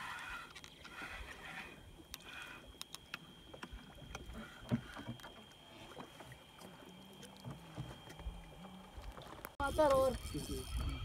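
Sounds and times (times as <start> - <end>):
thin high whine: 0.0 - 11.0
water lapping: 0.0 - 11.0.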